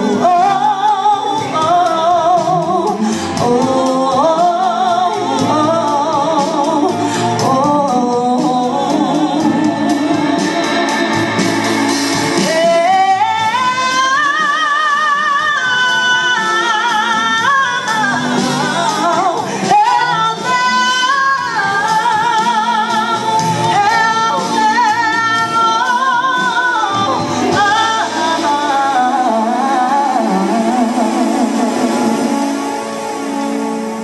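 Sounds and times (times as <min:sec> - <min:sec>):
woman singing with vibrato: 0:00.0 - 0:34.0.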